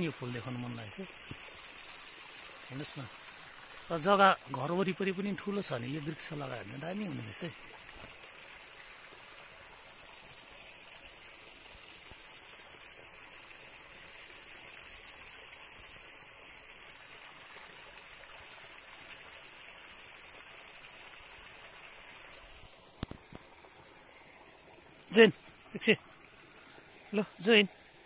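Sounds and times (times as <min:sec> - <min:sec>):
running water hiss: 0:00.0 - 0:28.0.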